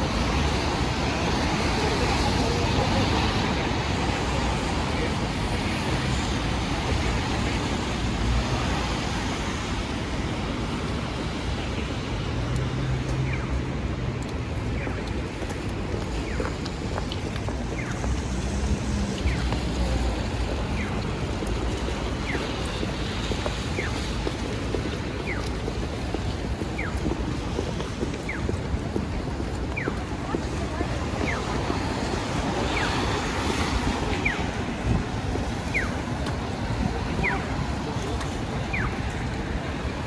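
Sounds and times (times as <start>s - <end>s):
traffic rumble: 0.0s - 40.0s
wet street hiss: 0.0s - 40.0s.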